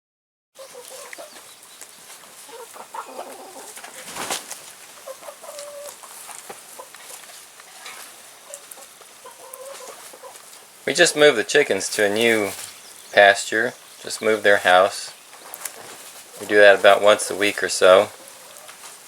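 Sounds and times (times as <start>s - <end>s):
hens clucking: 0.6s - 19.0s.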